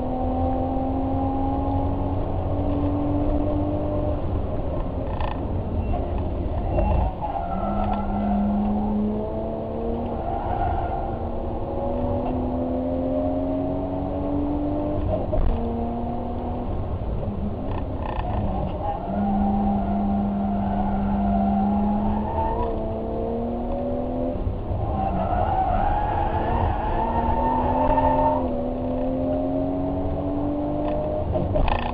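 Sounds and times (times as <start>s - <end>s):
car engine running hard: 0.0s - 31.9s.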